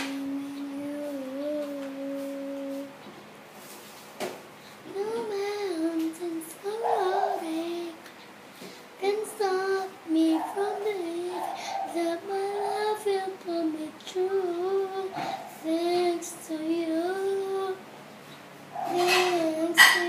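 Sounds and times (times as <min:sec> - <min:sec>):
girl singing: 0:00.0 - 0:03.0, 0:04.8 - 0:08.0, 0:09.0 - 0:17.9, 0:18.8 - 0:20.0.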